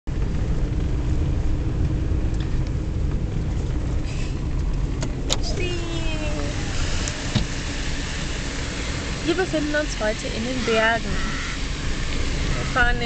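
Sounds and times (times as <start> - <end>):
car engine and tyres rumbling: 0.0 - 13.0
road hiss: 1.7 - 13.0.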